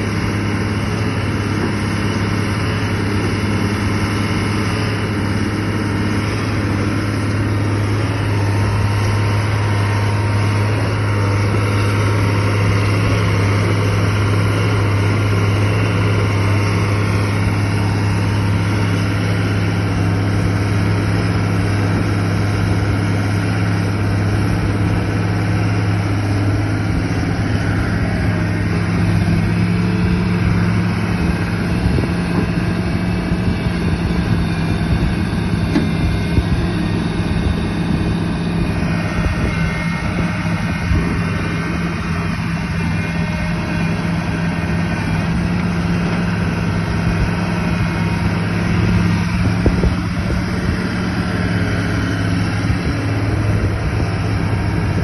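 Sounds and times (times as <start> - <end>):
engine humming steadily: 0.0 - 55.0.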